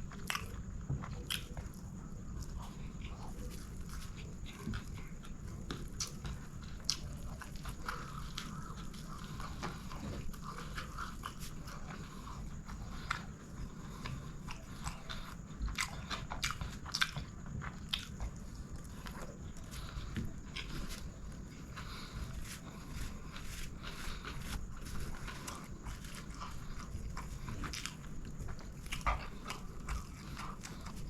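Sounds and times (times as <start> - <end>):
chewing and mouth clicks: 0.0 - 31.0
low background hum: 0.0 - 31.0.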